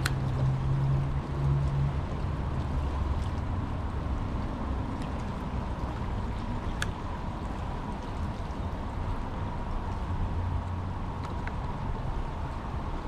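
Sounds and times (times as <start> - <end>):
water sloshing around kayak: 0.0 - 13.0.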